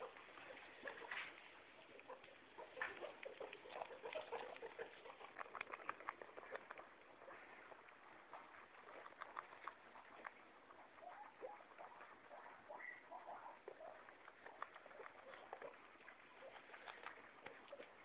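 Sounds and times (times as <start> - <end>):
faint clicking and rustling: 0.0 - 18.0.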